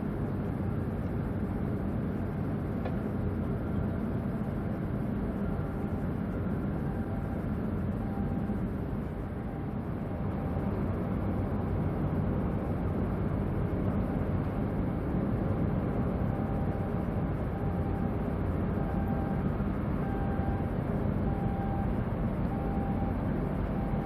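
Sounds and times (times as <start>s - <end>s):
faint hum of steady tones: 0.0s - 24.0s
ferry engines rumbling: 0.0s - 24.0s.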